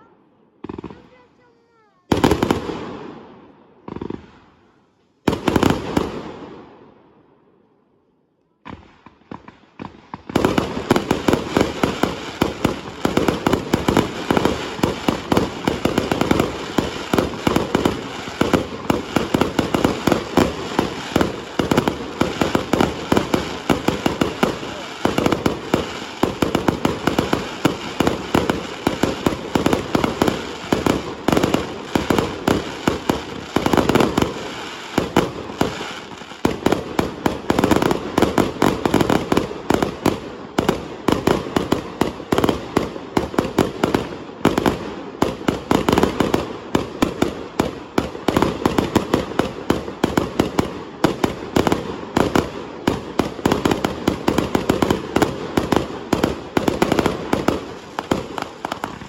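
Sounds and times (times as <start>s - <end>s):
fireworks banging: 8.7s - 59.0s.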